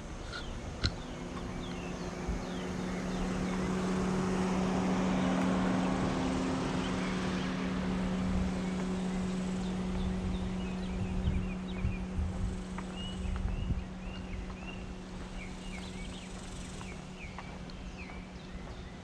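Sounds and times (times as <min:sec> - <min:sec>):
birds chirping: 0:00.0 - 0:19.0
vehicle passing by: 0:00.0 - 0:19.0.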